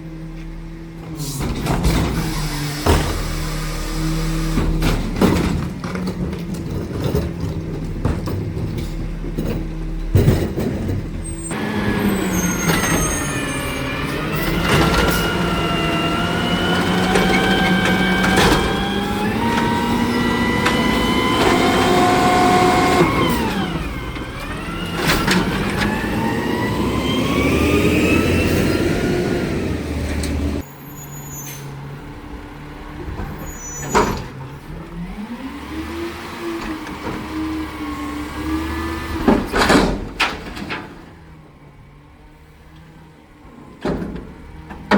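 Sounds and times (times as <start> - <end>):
garbage truck engine revving: 0.0 - 44.9.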